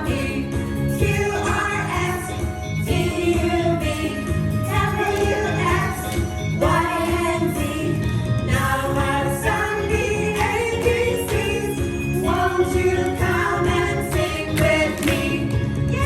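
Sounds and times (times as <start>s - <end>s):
backing track: 0.0s - 16.0s
voices singing together: 0.0s - 16.0s.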